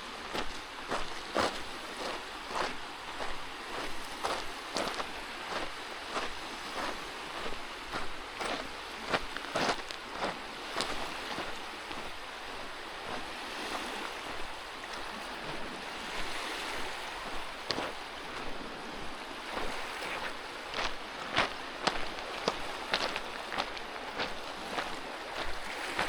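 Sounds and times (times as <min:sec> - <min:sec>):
footsteps on trail: 0:00.0 - 0:26.0
waves washing on shore: 0:00.0 - 0:26.0.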